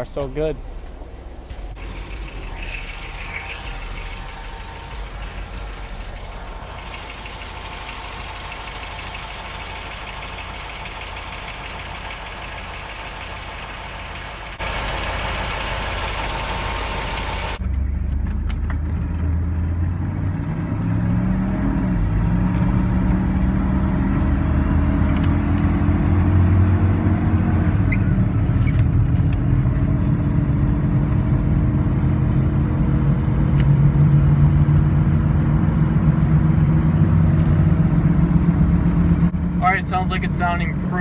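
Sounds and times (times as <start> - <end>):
pickup engine and exhaust running: 0.0 - 41.0.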